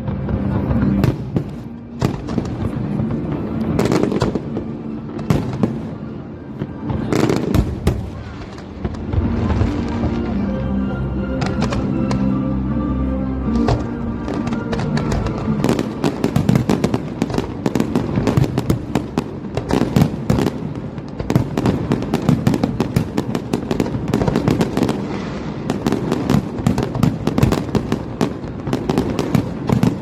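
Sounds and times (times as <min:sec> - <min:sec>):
fireworks crackling bangs and pops: 0:00.0 - 0:10.5, 0:13.6 - 0:30.0.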